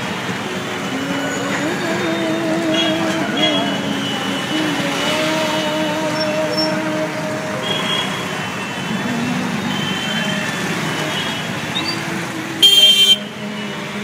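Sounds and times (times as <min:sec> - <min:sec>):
traffic engines running: 0:00.0 - 0:14.0.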